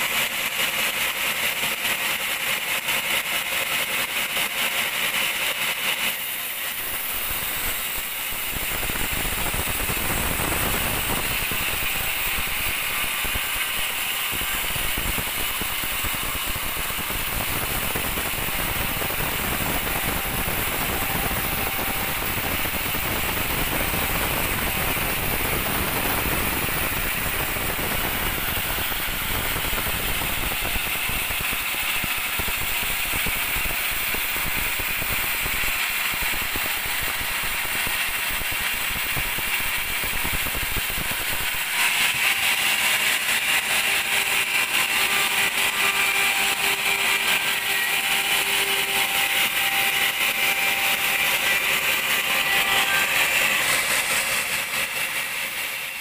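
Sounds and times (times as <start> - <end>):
band saw cutting log: 0.0 - 56.0
faint steady whine: 6.1 - 56.0.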